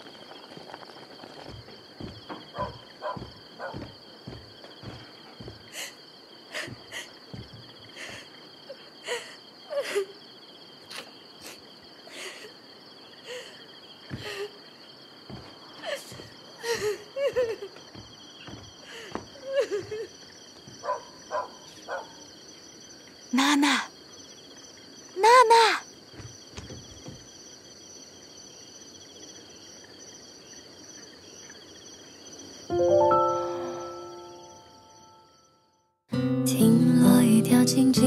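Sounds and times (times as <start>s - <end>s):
insects chirping: 0.0s - 38.0s.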